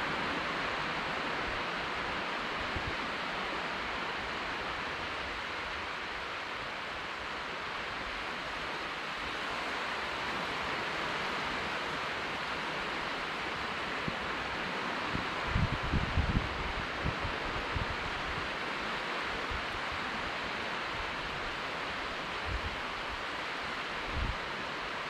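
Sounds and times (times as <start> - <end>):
small waves breaking on shore: 0.0 - 25.0.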